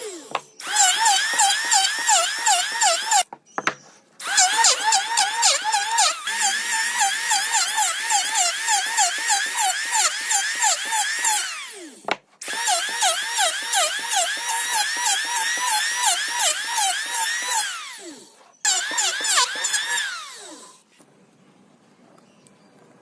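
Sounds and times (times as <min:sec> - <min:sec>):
power drill whining: 0:00.0 - 0:03.3, 0:04.2 - 0:20.9.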